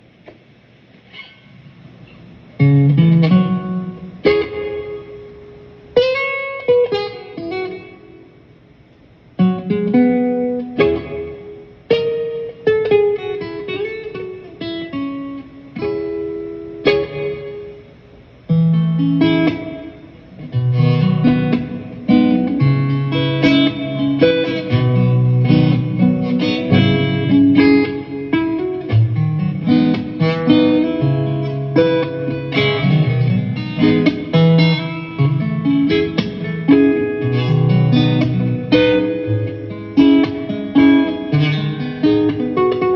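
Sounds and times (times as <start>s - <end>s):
plucked guitar chords: 1.1s - 42.9s.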